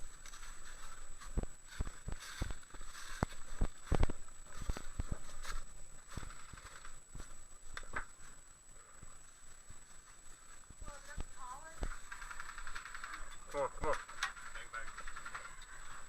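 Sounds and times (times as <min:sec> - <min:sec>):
rustling through dry brush: 0:00.0 - 0:16.0.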